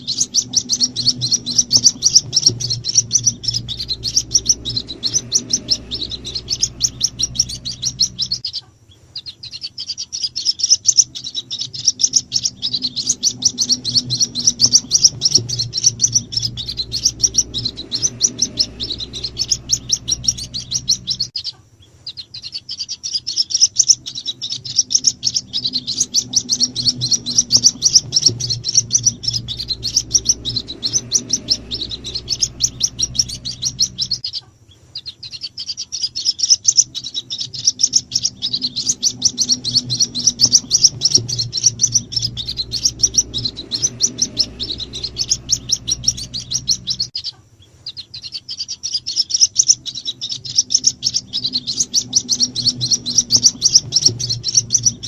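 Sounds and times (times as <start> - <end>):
bird chicks peeping: 0.0 - 55.0
faint low hum: 0.0 - 55.0.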